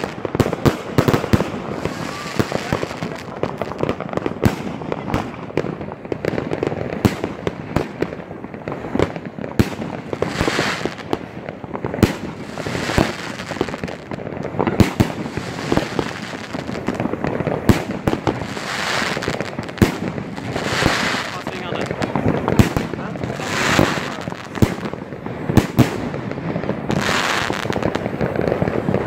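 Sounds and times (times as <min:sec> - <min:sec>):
fireworks thumps and bangs: 0:00.0 - 0:29.0.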